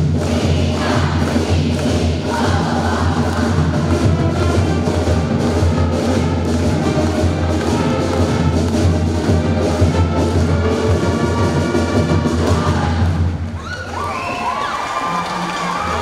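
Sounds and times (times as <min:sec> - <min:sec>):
brass band with drums: 0:00.0 - 0:13.5.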